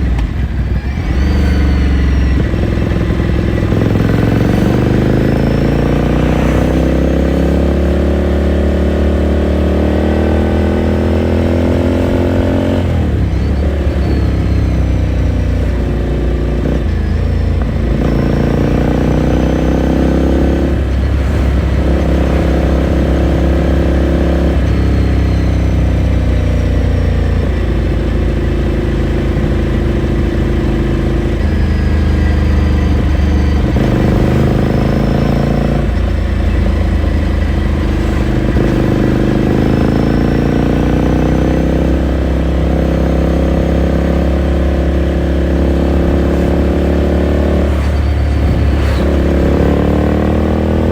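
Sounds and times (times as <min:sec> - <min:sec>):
motorcycle engine and exhaust: 0:00.0 - 0:50.9.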